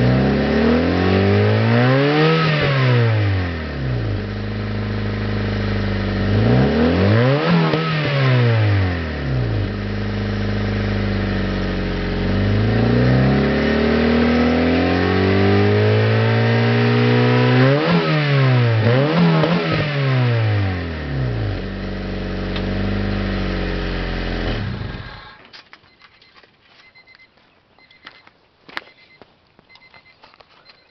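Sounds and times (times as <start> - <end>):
car engine idling and revving: 0.0 - 25.4.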